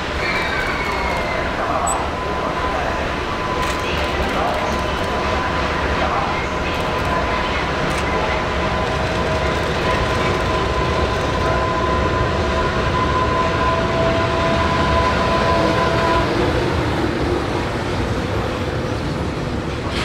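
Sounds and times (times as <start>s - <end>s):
locomotive two-tone whine: 0.0s - 20.0s.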